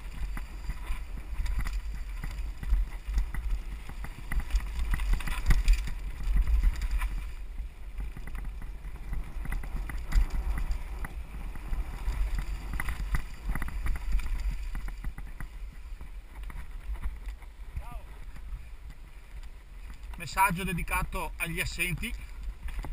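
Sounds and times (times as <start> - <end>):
bike rattling over stones: 0.0 - 22.9
wind buffeting microphone: 0.0 - 22.9.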